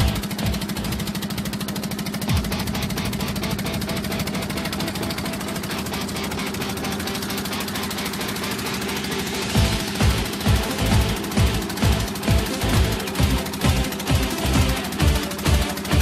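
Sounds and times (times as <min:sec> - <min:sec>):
boat engine knocking: 0:00.0 - 0:16.0.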